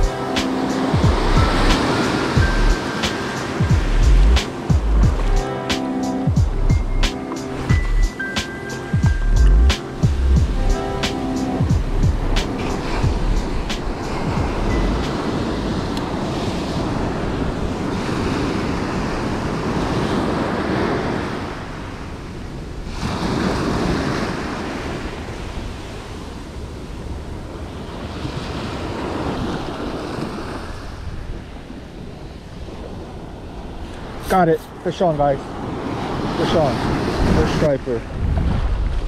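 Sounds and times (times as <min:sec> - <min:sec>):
wind on microphone: 0:00.0 - 0:05.6, 0:06.3 - 0:34.8, 0:35.4 - 0:39.0
ocean surf breaking: 0:00.0 - 0:06.4, 0:07.1 - 0:39.0.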